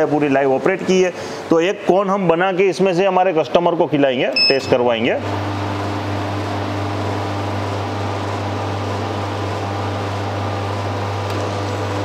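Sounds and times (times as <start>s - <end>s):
ice cream machine humming: 0.0s - 12.0s.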